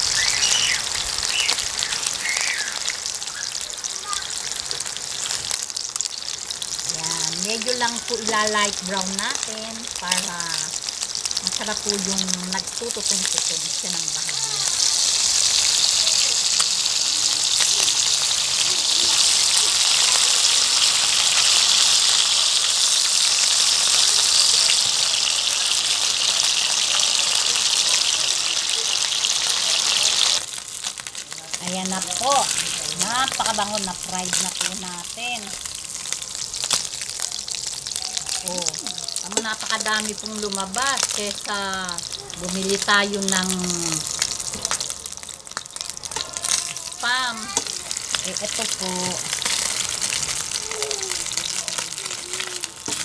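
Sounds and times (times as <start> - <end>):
crackles and pops: 0.0 - 53.0
meat sizzling in oil: 0.0 - 53.0.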